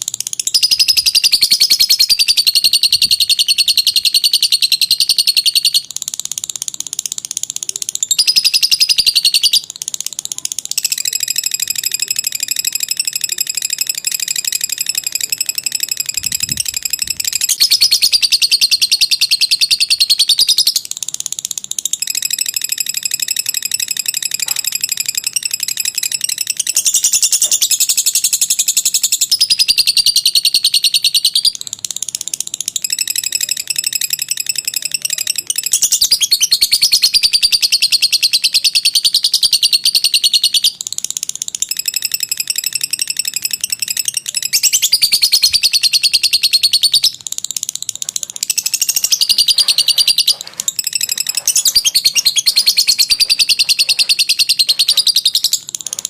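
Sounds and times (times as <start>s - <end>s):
lovebird rapid high chattering: 0.0s - 56.0s.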